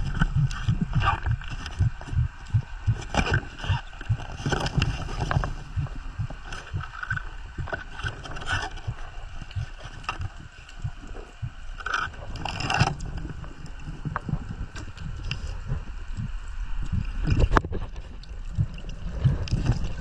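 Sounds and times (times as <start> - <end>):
low rumble: 0.0 - 20.0
water splashing and sloshing: 0.0 - 20.0.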